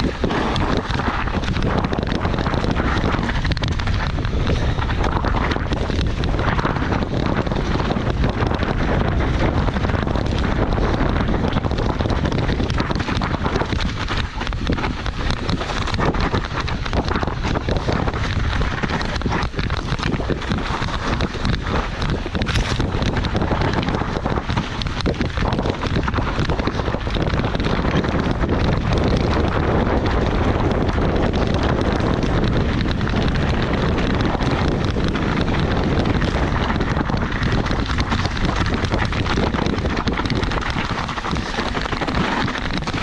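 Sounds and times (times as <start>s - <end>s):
motorcycle engine rumble: 0.0s - 43.0s
wind buffeting microphone: 0.0s - 43.0s.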